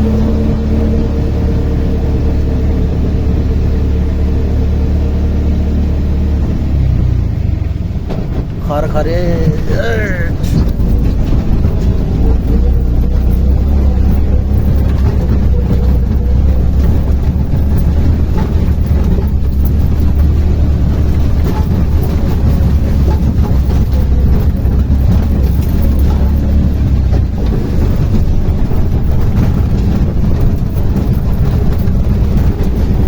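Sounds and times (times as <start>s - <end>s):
auto-rickshaw motor rumbling: 0.0s - 33.0s
road noise: 0.0s - 33.0s.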